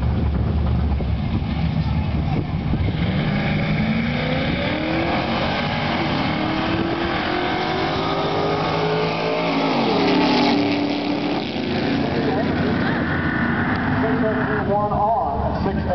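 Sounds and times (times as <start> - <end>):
drag racing cars accelerating: 0.0 - 15.9.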